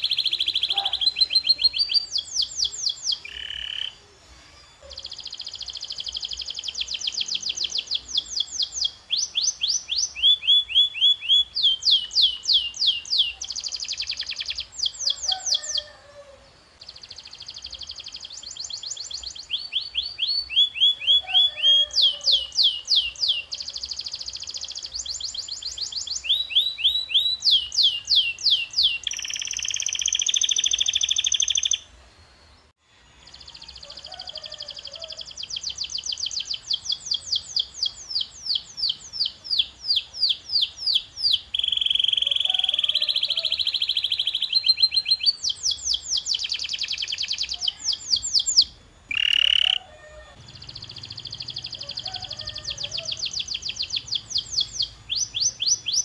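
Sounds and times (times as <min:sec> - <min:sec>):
canary singing trills: 0:00.0 - 0:31.9, 0:33.2 - 0:56.0.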